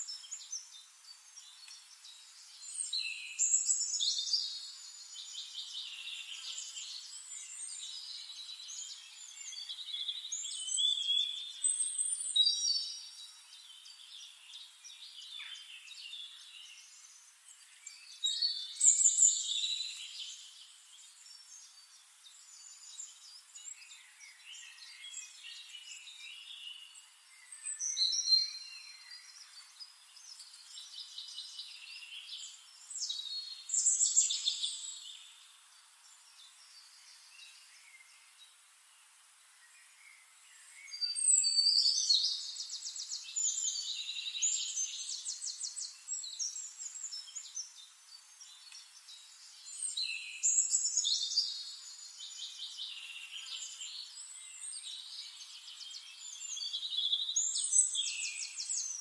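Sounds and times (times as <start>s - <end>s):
faint bird chirps and trills: 0.0s - 59.0s
songbirds chirping: 0.0s - 59.0s.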